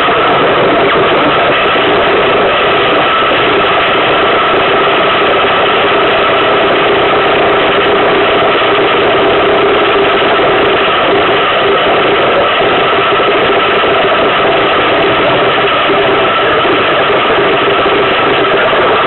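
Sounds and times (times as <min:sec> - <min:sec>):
steady hum tones: 0:00.0 - 0:19.0.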